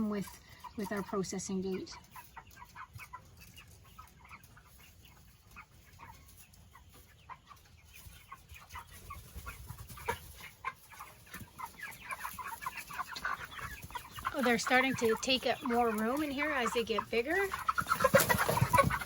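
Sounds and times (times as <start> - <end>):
chickens clucking and peeping: 0.0 - 19.0.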